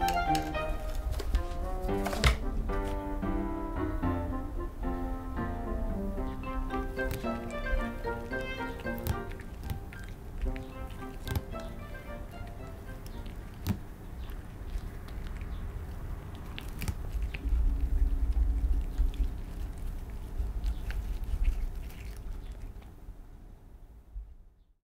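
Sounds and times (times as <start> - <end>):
cat chewing grass: 0.0 - 3.3, 5.0 - 23.3.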